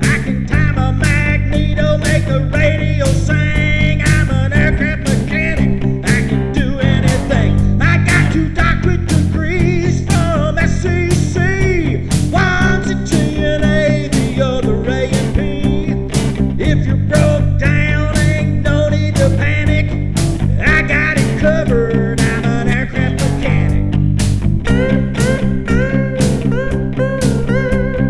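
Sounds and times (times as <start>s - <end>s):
bass: 0.0s - 28.0s
bending electric guitar lead: 0.0s - 28.0s
steady drum beat: 0.0s - 28.0s.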